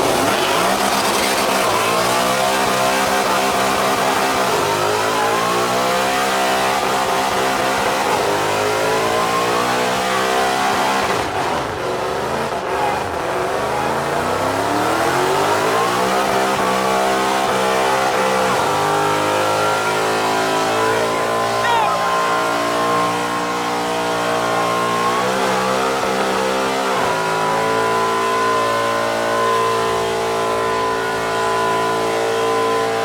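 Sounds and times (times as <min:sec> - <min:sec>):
engine revving high: 0:00.0 - 0:33.0.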